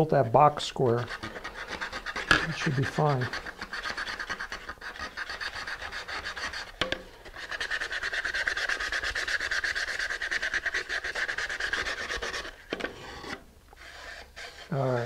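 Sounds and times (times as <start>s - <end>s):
sandpaper rasping on wood: 0.8s - 15.0s.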